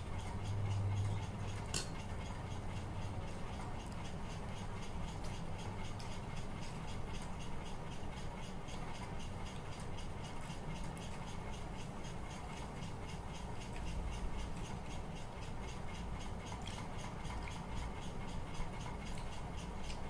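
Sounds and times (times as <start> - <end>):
fast faint ticking: 0.0 - 20.0
steady low hum: 0.0 - 20.0.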